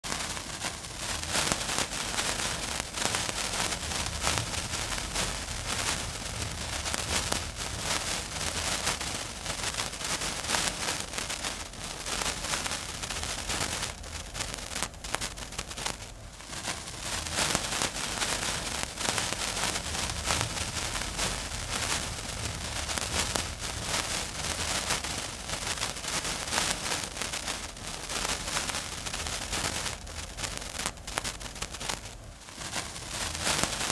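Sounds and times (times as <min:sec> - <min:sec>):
fuse sizzling and crackling: 0:00.0 - 0:33.9.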